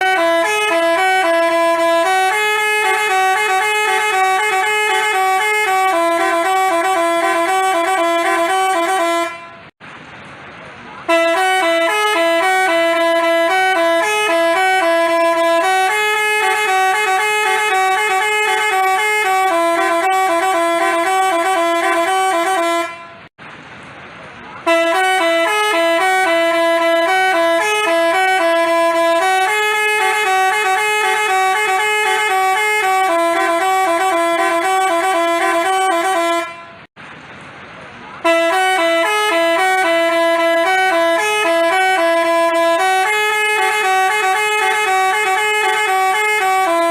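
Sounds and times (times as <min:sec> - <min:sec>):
multi-tone horn melody: 0:00.0 - 0:09.8, 0:11.0 - 0:23.3, 0:24.6 - 0:36.9, 0:38.2 - 0:46.9.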